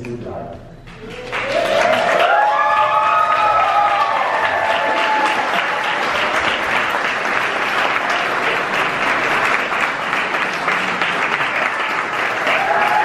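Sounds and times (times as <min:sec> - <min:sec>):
crowd applauding: 0:00.9 - 0:13.0.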